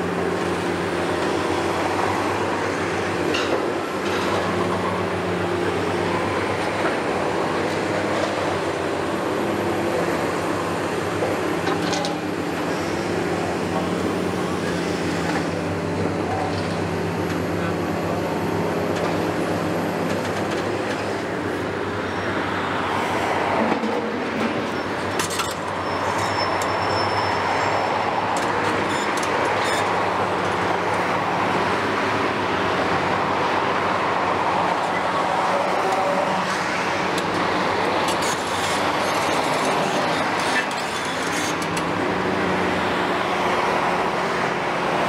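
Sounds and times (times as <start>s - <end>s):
excavator diesel engine: 0.0s - 45.0s.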